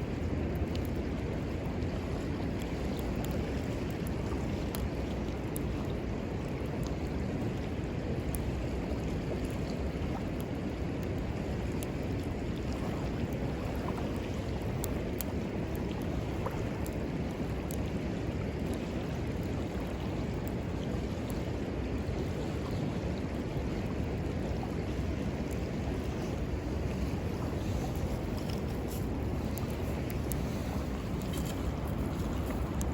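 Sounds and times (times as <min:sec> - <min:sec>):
faint wood fire crackles: 0:00.0 - 0:32.9
river water flowing: 0:00.0 - 0:32.9.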